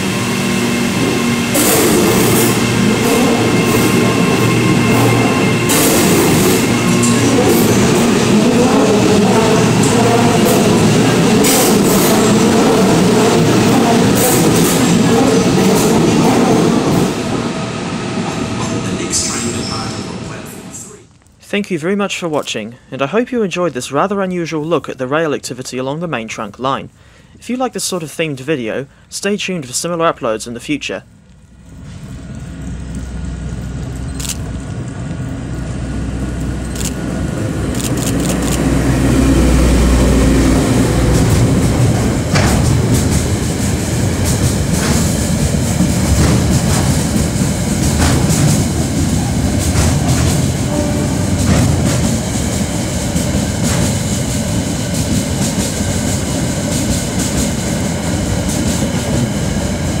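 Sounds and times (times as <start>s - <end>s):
diesel locomotive engine: 0.0s - 21.2s, 26.4s - 60.0s.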